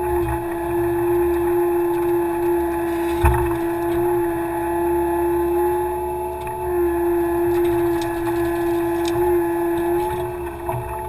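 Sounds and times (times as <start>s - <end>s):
excavator engine whining: 0.0s - 11.0s.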